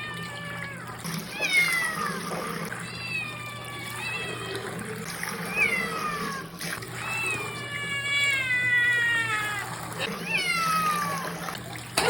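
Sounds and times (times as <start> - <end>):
cats yowling: 0.0 - 12.0.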